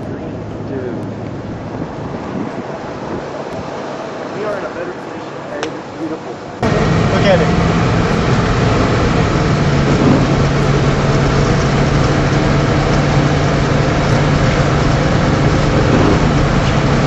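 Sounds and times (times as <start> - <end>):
loud rushing noise: 0.0 - 17.0
vehicle engine humming: 0.0 - 17.0.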